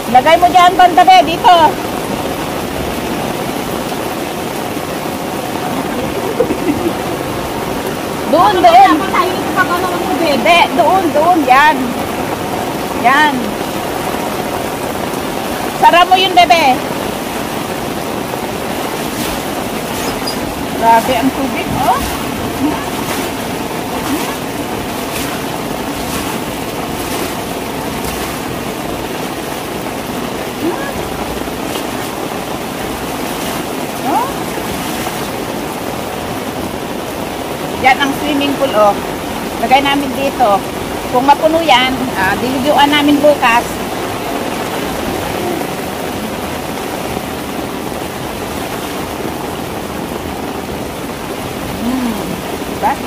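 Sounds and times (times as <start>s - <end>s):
heavy rain pouring: 0.0s - 53.0s
water gushing onto tiled floor: 0.0s - 53.0s.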